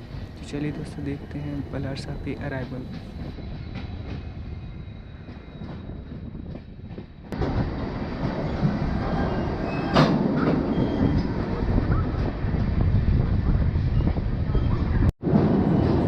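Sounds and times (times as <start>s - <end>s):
train rumble with rail clatter: 0.0s - 16.0s.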